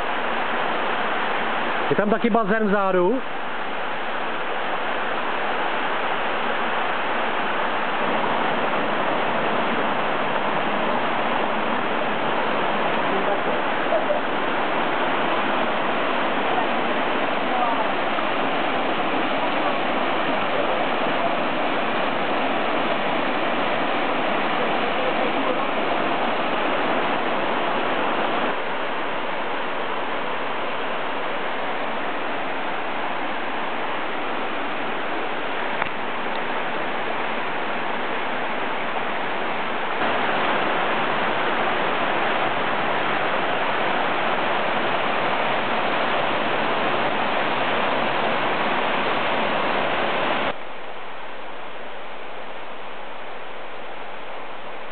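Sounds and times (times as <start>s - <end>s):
waterfall and stream rushing: 0.0s - 54.9s.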